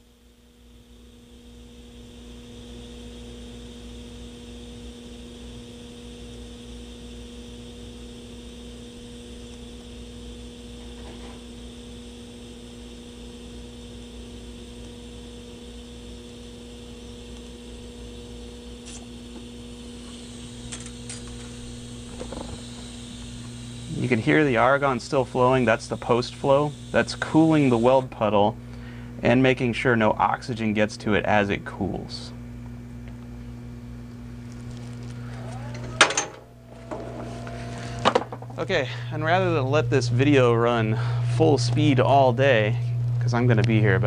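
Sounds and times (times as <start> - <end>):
welding arc hum and hiss: 0.0 - 44.0.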